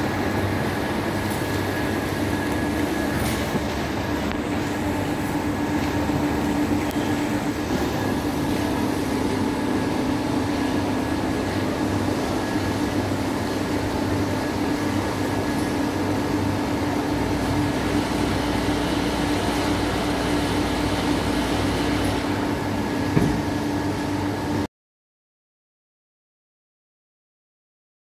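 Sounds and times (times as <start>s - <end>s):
mixer tub tilting hum: 0.0s - 24.6s.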